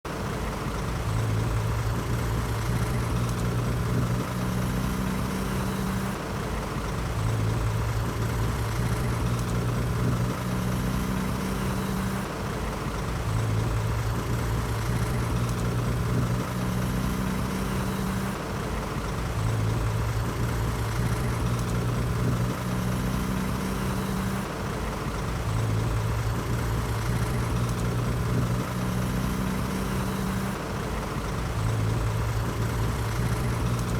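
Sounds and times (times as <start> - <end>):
diesel engine humming: 0.1 - 33.9.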